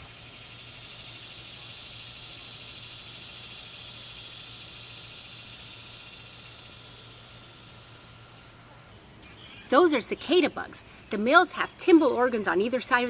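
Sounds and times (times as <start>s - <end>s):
cicadas buzzing: 0.0s - 13.0s.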